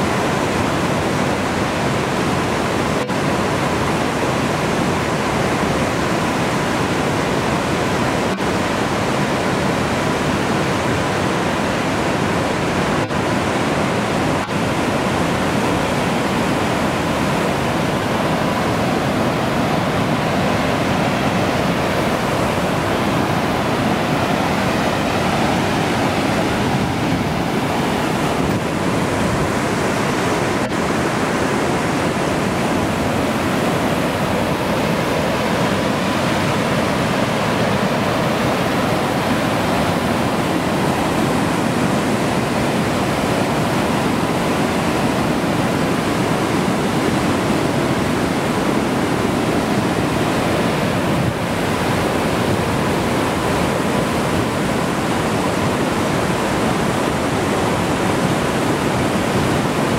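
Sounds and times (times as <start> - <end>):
water rushing over rock: 0.0 - 59.9.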